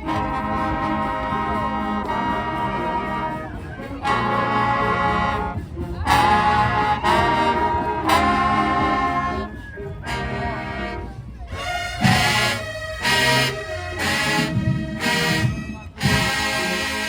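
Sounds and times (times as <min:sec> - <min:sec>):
brass band holding chords: 0:00.0 - 0:17.0.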